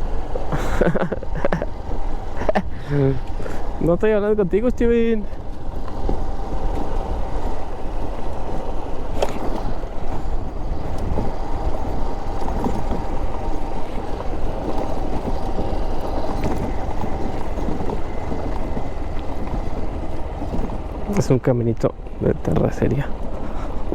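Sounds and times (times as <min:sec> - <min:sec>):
motorcycle engine running: 0:00.0 - 0:23.9
wind rumble on microphone: 0:00.0 - 0:23.9.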